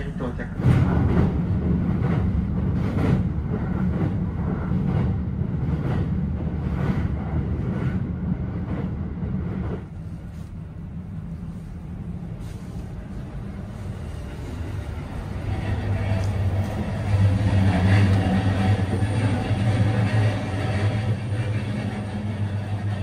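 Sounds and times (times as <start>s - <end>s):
faint train clatter: 0.0s - 23.0s
train rumbling on bridge: 0.0s - 23.0s.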